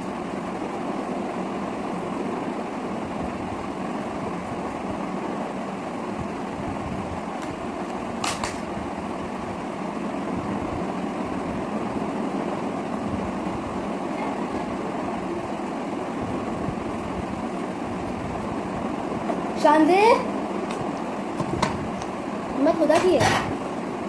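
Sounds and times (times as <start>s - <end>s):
whooshing room noise: 0.0s - 24.0s.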